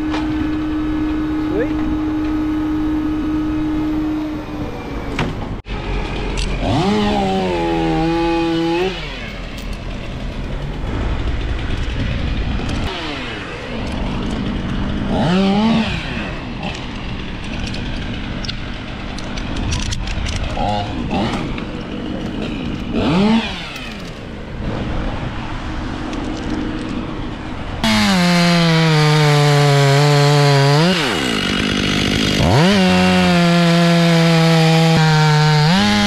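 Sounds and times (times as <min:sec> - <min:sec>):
engine running and revving: 0:00.0 - 0:36.0.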